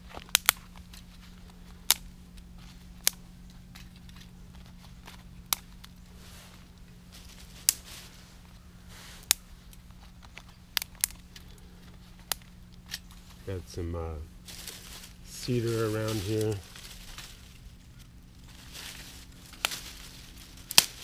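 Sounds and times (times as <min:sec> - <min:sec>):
dry sticks snapping: 0:00.0 - 0:13.4, 0:14.5 - 0:21.0
rustling of twigs and gloves: 0:00.0 - 0:21.0.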